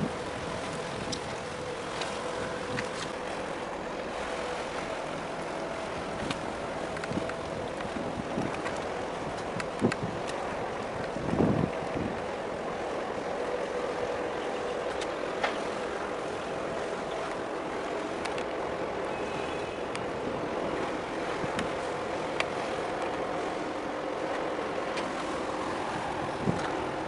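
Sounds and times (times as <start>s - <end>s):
boat engine drone: 0.0s - 27.0s
wind on microphone: 0.0s - 27.0s.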